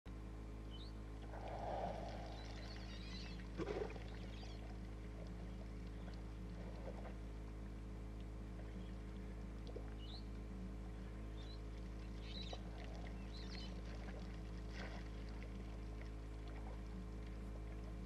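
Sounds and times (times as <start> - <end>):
low mechanical hum: 0.1 - 18.0.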